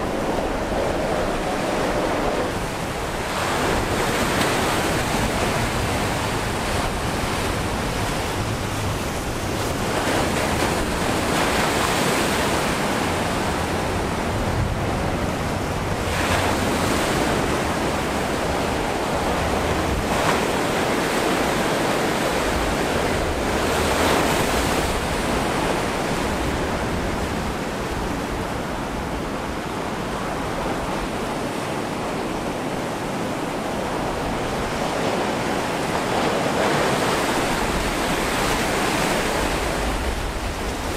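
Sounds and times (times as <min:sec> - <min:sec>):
waves breaking: 0:00.0 - 0:40.9
wind buffeting microphone: 0:00.0 - 0:40.9.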